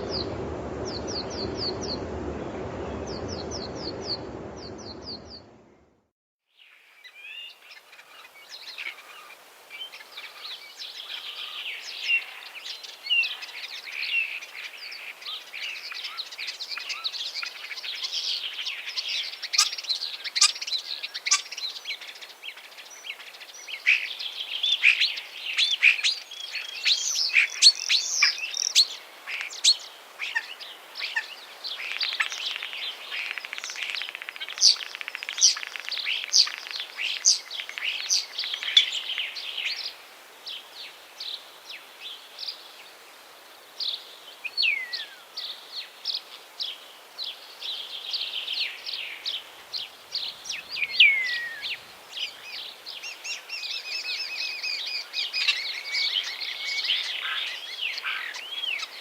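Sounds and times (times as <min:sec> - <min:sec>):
songbirds chirping and trilling: 0:06.6 - 0:43.0, 0:43.6 - 0:59.0.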